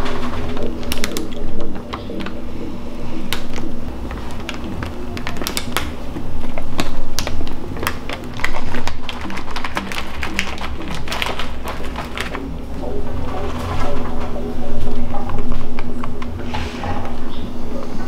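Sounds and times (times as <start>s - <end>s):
plastic bag crinkling: 0.0s - 16.5s
background music: 0.0s - 18.0s.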